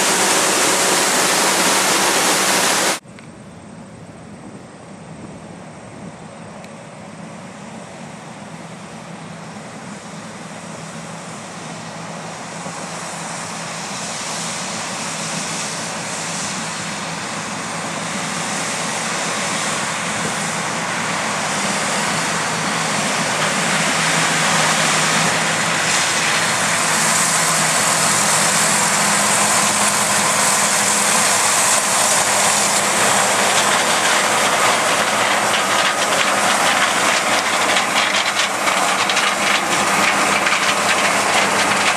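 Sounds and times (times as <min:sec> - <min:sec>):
harvest machinery running: 0:00.0 - 0:03.0, 0:07.5 - 0:41.9.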